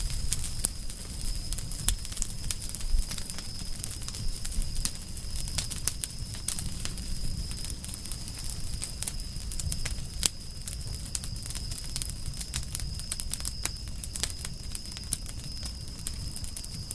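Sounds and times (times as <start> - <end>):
campfire crackling and popping: 0.0 - 16.9
low rumble of flames: 0.0 - 16.9.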